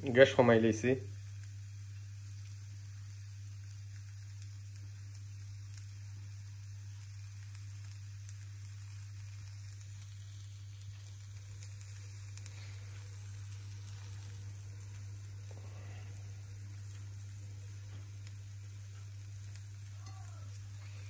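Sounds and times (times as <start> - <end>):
food sizzling in a frying pan: 0.0 - 21.0
steady low hum: 0.0 - 21.0.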